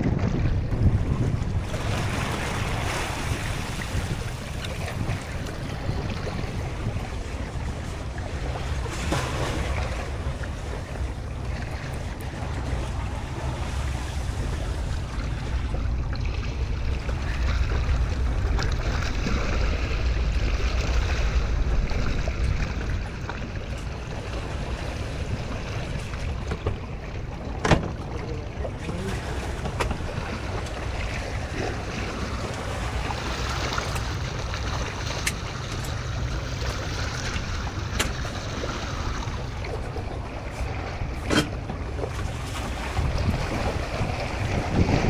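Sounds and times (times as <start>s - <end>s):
sea waves: 0.0s - 45.0s
wind rumbling on microphone: 0.0s - 45.0s.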